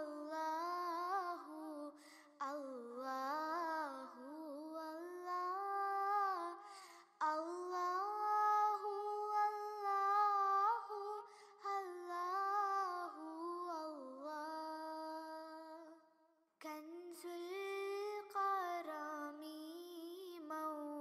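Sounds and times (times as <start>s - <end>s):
high voice singing devotional song: 0.0s - 21.0s.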